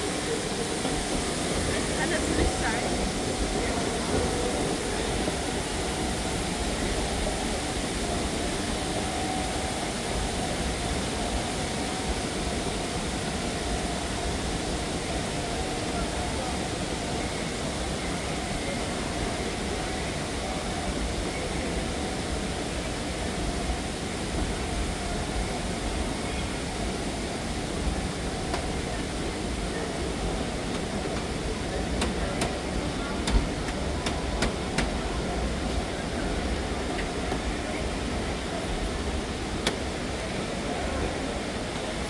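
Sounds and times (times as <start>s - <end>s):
hall hum and hiss: 0.0s - 42.0s.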